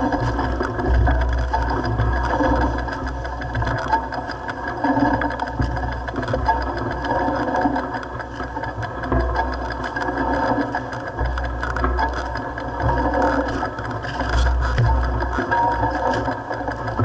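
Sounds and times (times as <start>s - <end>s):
mountain bike rattling: 0.0s - 17.0s.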